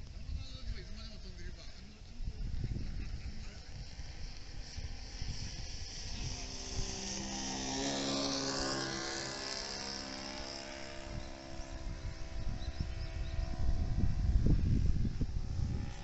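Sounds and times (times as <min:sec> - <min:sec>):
wind on microphone: 0:00.0 - 0:16.0
model plane motor whine: 0:00.8 - 0:16.0.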